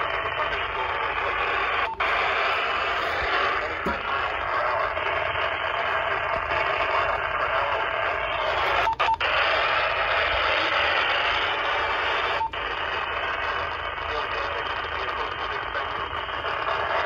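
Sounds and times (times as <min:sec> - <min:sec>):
radio static hiss: 0:00.0 - 0:17.0
short radio beep: 0:00.0 - 0:17.0.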